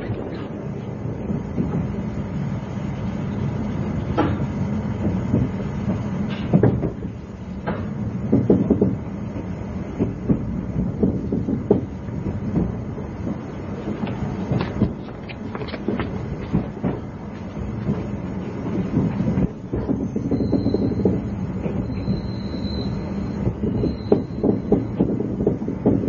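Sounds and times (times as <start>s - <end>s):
train cabin low hum: 0.0s - 26.0s.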